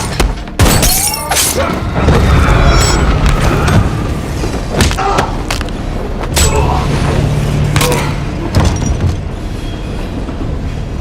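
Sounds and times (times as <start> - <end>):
film score music: 1.3 - 11.0.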